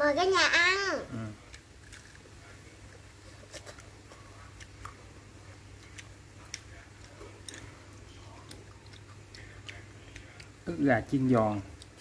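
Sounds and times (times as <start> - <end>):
steady low hum: 0.0 - 12.0
child chewing crispy chicken: 1.2 - 12.0.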